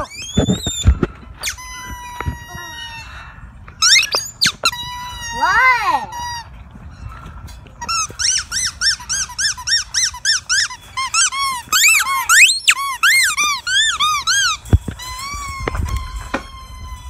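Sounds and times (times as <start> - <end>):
squeaky toy squeaking: 0.0 - 3.1, 3.8 - 7.1, 7.8 - 17.0.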